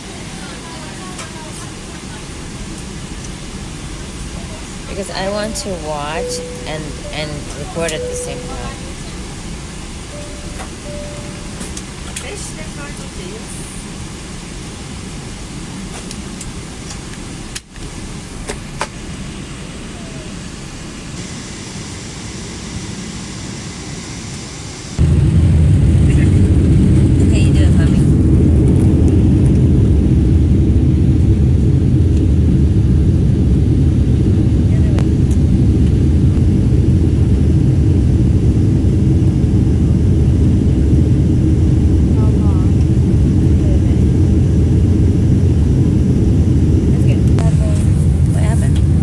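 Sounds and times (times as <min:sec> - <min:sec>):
airliner cabin engine rush: 0:00.0 - 0:49.0.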